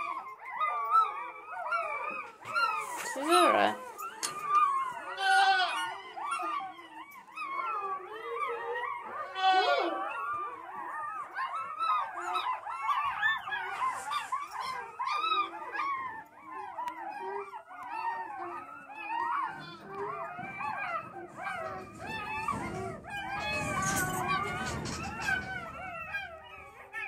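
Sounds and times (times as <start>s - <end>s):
puppies whimpering and crying: 0.0s - 27.0s.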